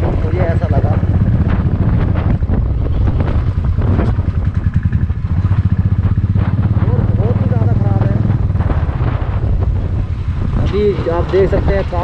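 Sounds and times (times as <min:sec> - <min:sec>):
knocks and rattles on stony road: 0:00.0 - 0:12.0
motorcycle engine running: 0:00.0 - 0:12.0.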